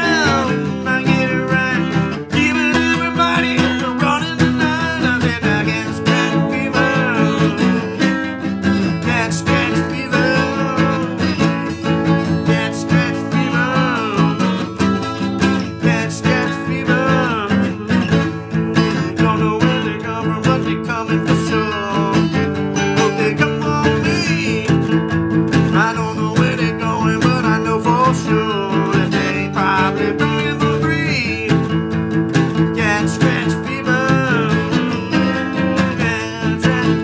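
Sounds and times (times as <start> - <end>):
acoustic guitar strumming chords: 0.0 - 37.0.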